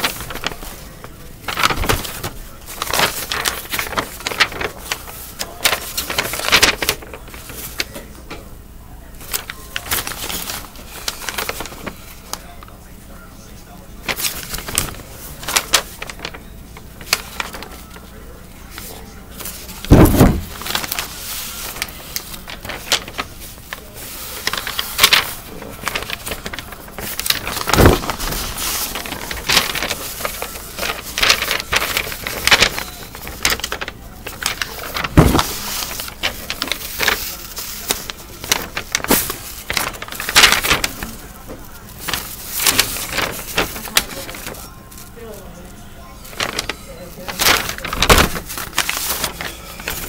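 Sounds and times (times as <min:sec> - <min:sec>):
paper rustling and crinkling: 0:00.0 - 0:50.0.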